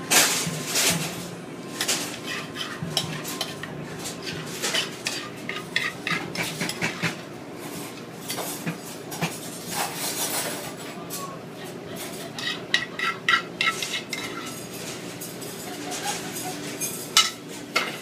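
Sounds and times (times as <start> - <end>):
metal utensils clinking on pans: 1.8 - 7.2, 8.2 - 18.0.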